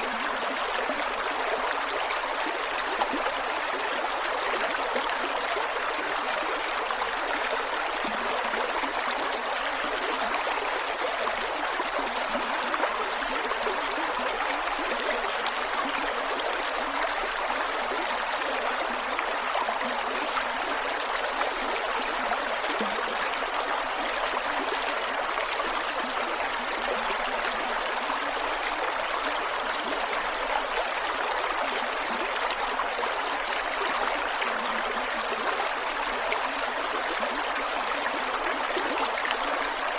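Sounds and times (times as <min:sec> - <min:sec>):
creek water gurgling over rocks: 0:00.0 - 0:39.9.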